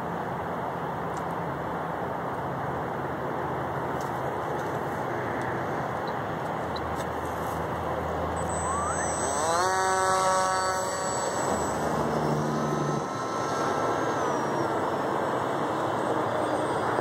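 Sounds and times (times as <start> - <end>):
electric motor propeller whine: 2.0 - 17.0.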